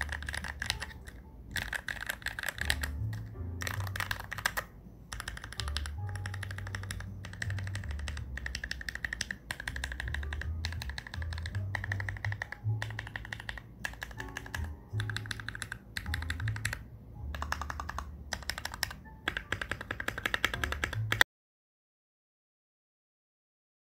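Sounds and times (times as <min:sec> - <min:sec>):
mechanical keyboard typing: 0:00.0 - 0:21.2.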